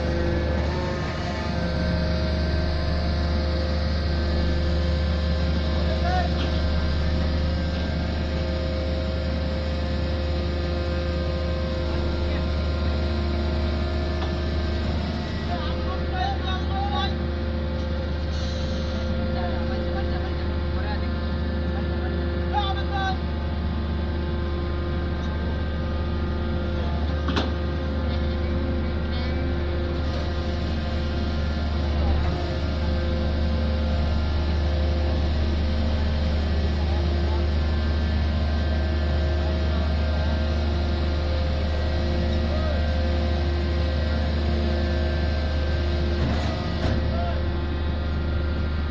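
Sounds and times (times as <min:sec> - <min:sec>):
constant higher machine tones: 0:00.0 - 0:48.9
construction machinery engine drone: 0:00.0 - 0:48.9.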